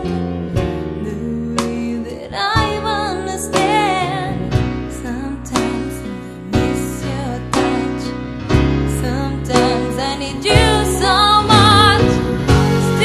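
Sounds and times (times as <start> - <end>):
slow tender song: 0.0 - 13.0.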